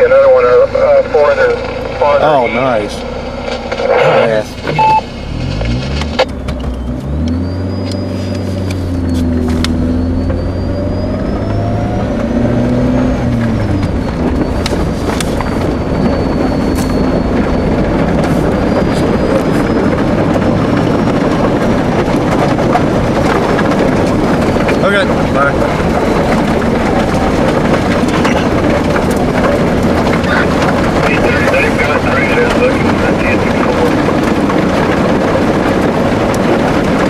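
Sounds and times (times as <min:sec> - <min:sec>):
car engine hum: 0:00.0 - 0:37.0
road noise: 0:00.0 - 0:37.0.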